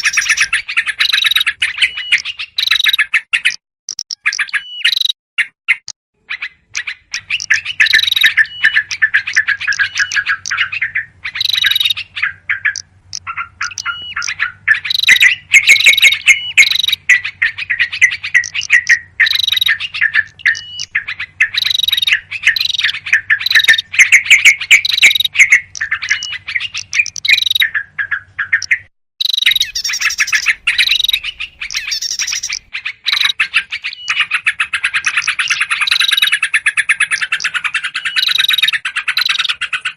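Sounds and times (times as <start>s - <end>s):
bulbuls chirping and trilling: 0.0s - 39.9s.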